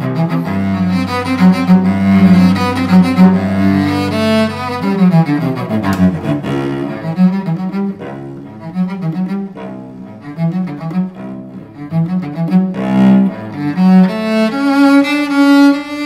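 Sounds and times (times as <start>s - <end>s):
solo cello bowed: 0.0s - 16.0s.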